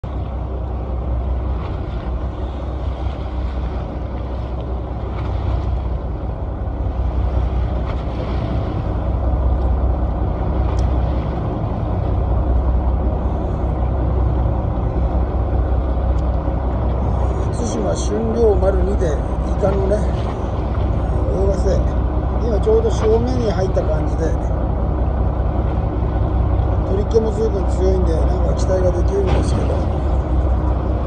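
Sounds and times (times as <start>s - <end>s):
boat engine rumble: 0.0s - 31.0s
choppy sea wash: 0.0s - 31.0s.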